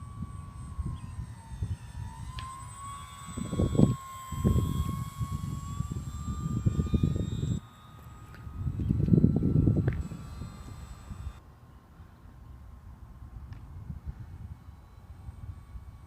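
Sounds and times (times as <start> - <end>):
wind rumble on microphone: 0.0 - 7.6, 8.3 - 11.4, 12.7 - 16.0
model plane motor whining: 0.0 - 16.0.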